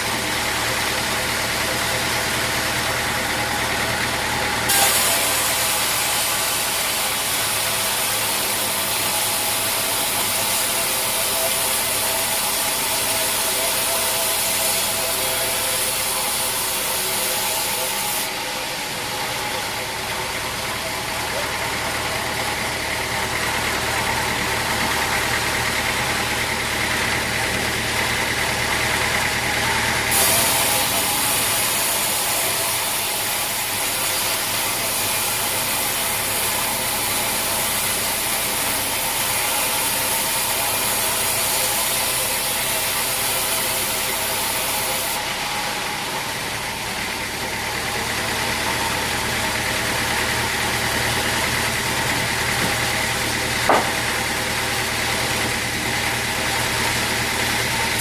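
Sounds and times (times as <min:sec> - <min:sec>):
sawmill machinery engine running: 0:00.0 - 0:58.0.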